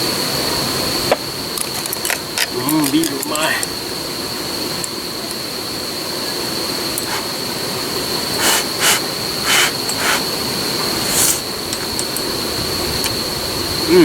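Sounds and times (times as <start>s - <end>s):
crickets trilling: 0.0s - 14.0s
steady low hiss: 0.0s - 14.0s.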